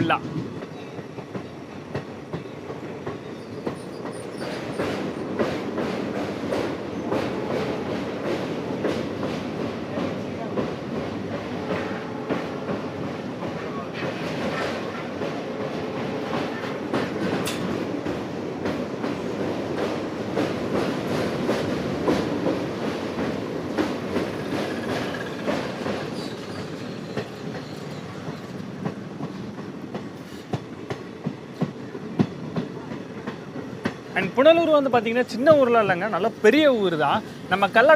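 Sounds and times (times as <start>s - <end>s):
train rumbling along track: 0.0s - 37.9s.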